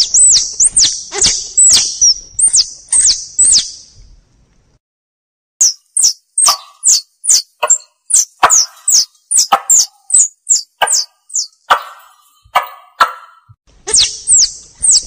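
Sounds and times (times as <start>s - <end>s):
squirrel call chirps: 0.0s - 3.9s, 5.6s - 15.0s.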